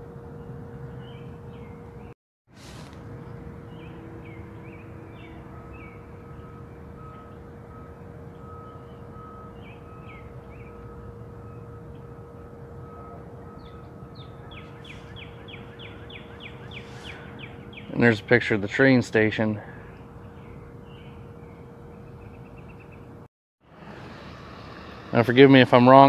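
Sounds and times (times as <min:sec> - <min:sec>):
songbirds chirping: 0:00.2 - 0:02.2, 0:03.1 - 0:23.3.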